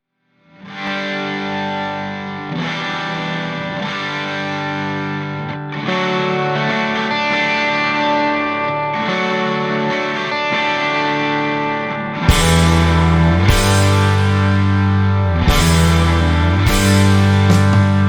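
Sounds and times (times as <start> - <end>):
distorted electric guitar chords: 0.5 - 18.0.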